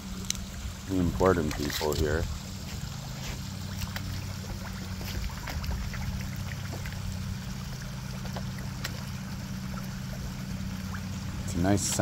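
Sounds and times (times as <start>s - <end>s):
fish splashing in pond: 0.0s - 12.0s
low mechanical hum: 0.0s - 12.0s
small waterfall trickling: 0.0s - 12.0s.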